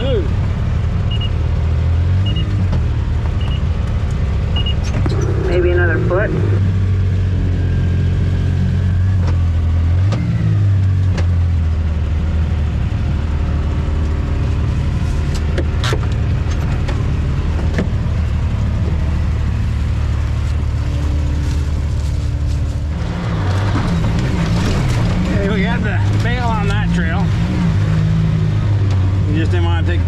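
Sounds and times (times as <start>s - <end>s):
off-road vehicle engine running: 0.0s - 30.0s.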